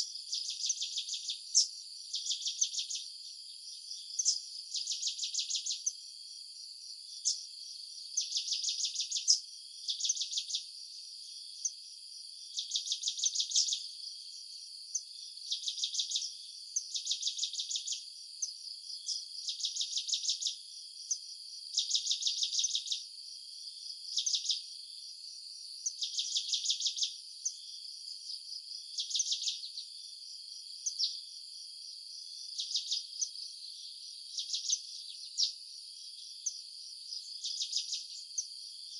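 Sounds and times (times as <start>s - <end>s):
insects chirping in pulses: 0.0s - 38.9s.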